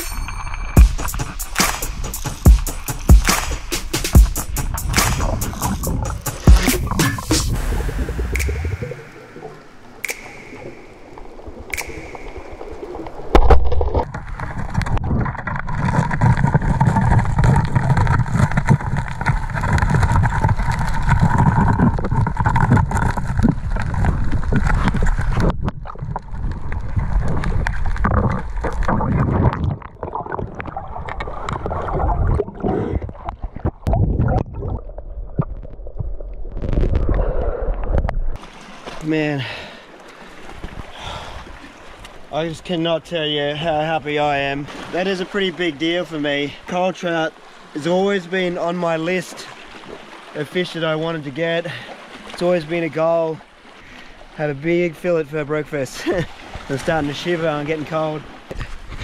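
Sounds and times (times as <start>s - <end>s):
underwater gurgling and churning: 0.0s - 59.0s.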